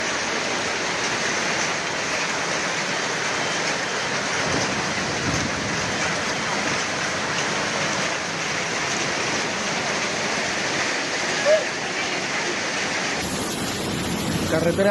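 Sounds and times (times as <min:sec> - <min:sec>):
heavy hail falling: 0:00.0 - 0:14.9.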